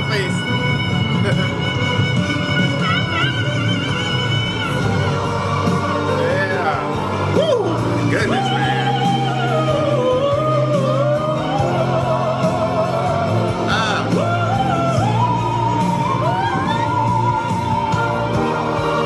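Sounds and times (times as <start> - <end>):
man singing high notes with vibrato: 0.0 - 19.0
orchestral backing: 0.0 - 19.0.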